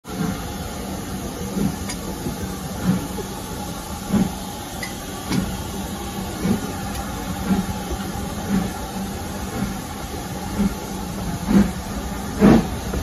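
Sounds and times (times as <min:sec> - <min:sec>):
train rumbling on the track: 0:00.0 - 0:13.0.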